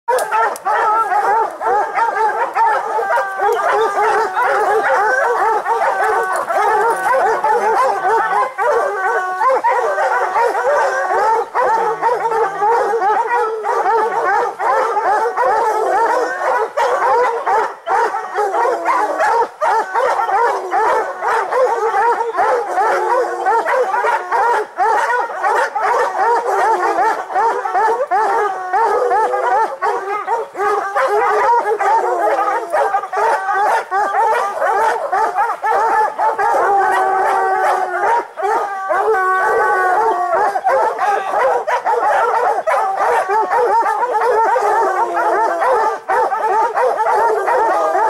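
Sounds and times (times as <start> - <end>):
hounds baying and barking: 0.1 - 48.0.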